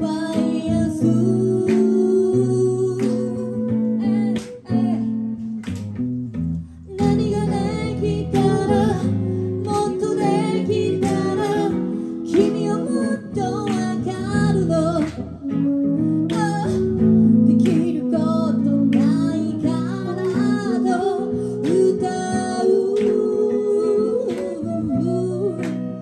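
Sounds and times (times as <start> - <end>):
woman singing: 0.0 - 5.6, 6.8 - 26.0
strummed acoustic guitar: 0.0 - 26.0.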